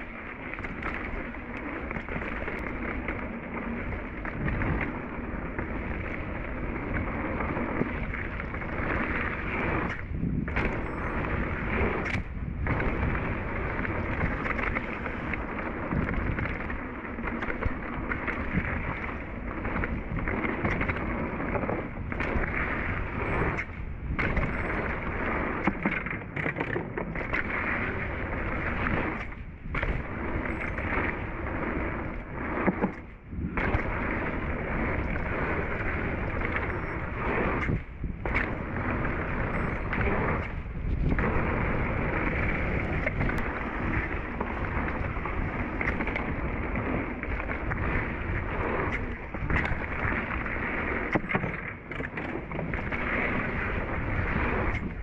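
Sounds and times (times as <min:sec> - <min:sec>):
bike tyres rolling on dirt: 0:00.0 - 0:55.0
wind on microphone: 0:00.0 - 0:55.0.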